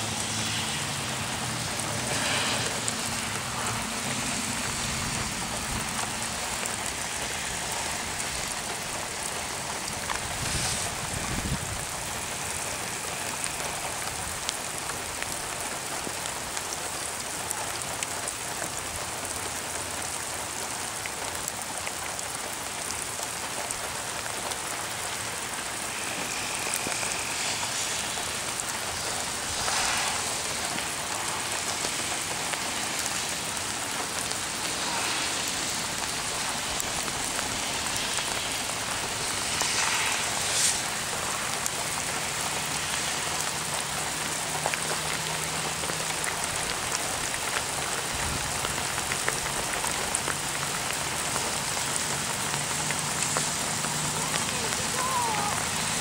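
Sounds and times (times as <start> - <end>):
heavy rain on grass: 0.0 - 56.0.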